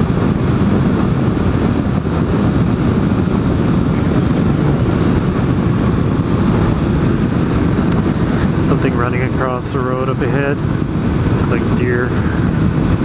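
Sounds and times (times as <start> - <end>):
motorcycle engine rumble: 0.0 - 13.0
road noise: 0.0 - 13.0.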